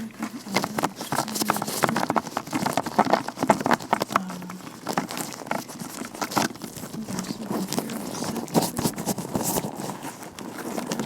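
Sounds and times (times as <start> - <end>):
gloved hands rubbing and crinkling: 0.0 - 11.0.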